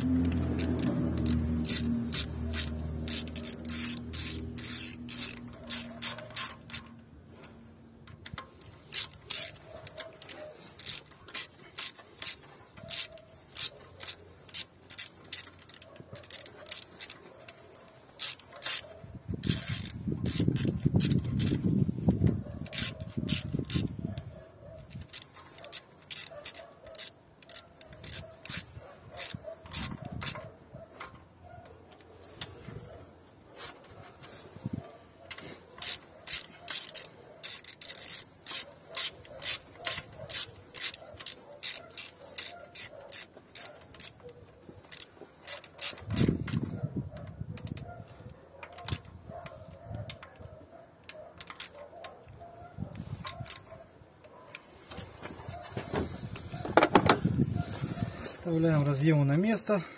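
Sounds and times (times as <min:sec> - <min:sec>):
socket ratchet clicking: 0:00.0 - 0:24.3, 0:24.9 - 0:31.2, 0:35.3 - 0:47.9, 0:48.6 - 0:52.2, 0:53.1 - 0:55.1.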